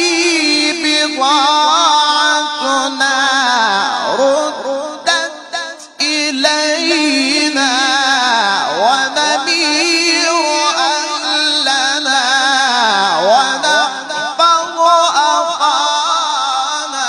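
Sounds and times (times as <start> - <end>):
men reciting in melismatic chant: 0.0 - 17.0.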